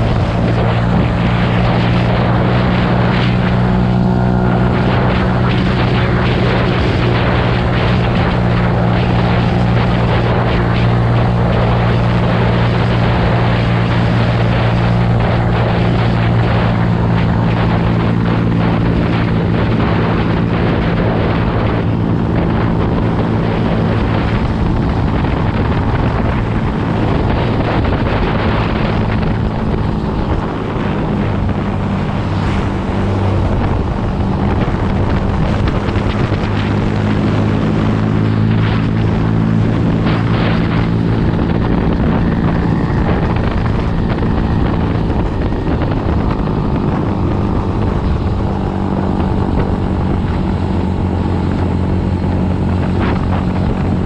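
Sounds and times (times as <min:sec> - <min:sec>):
dirt bike engine running: 0:00.0 - 0:54.0
wind buffeting microphone: 0:00.0 - 0:54.0.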